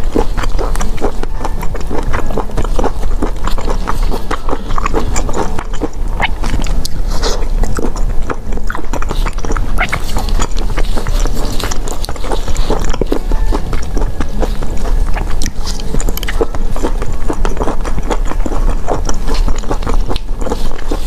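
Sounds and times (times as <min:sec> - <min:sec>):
wet crunchy chewing: 0:00.0 - 0:21.0.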